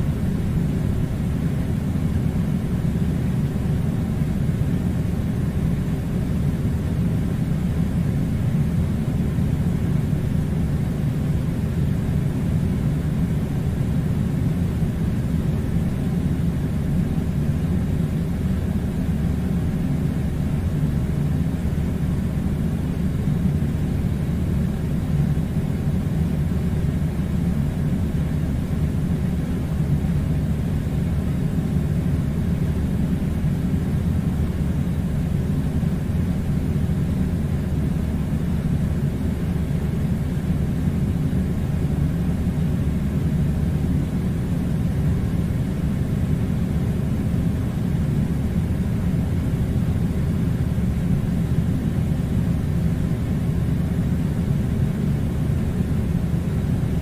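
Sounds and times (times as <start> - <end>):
air conditioner low rumble: 0.0 - 57.0.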